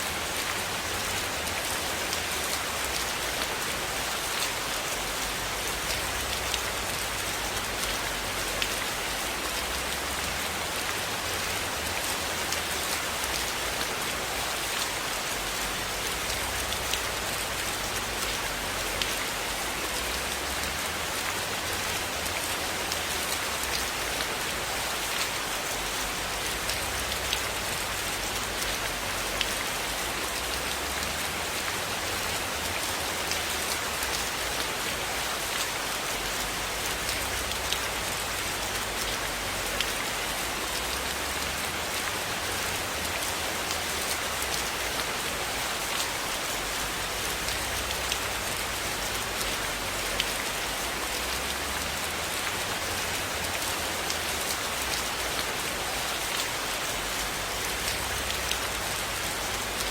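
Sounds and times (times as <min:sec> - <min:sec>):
rain hissing on a surface: 0:00.0 - 0:59.9.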